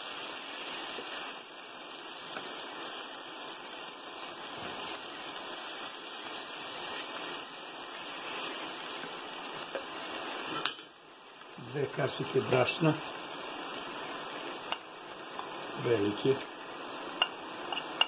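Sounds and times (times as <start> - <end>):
vegetables sizzling in a frying pan: 0.0 - 18.0.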